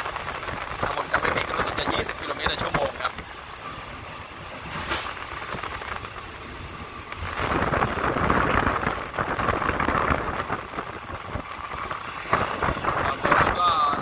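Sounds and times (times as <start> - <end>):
train carriage rattling on rails: 0.0 - 14.0.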